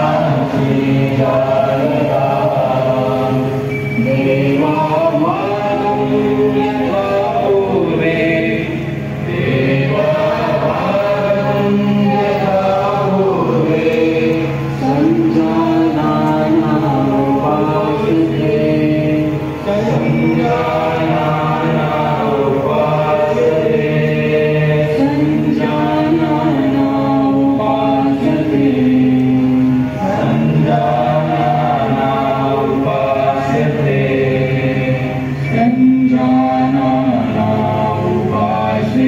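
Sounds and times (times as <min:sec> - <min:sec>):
voices chanting a prayer: 0:00.0 - 0:39.0.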